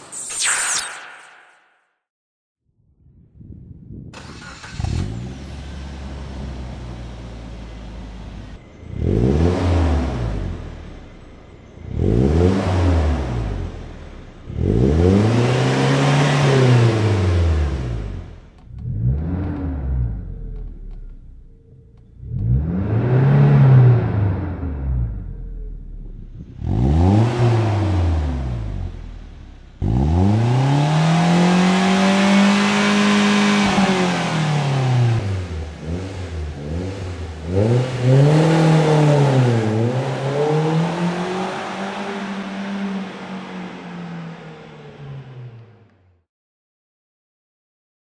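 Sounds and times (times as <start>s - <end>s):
car engine idling and revving: 4.2s - 46.2s.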